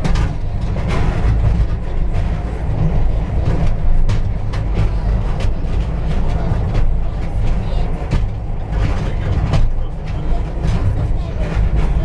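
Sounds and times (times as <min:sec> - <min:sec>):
underground train rumbling: 0:00.0 - 0:12.0.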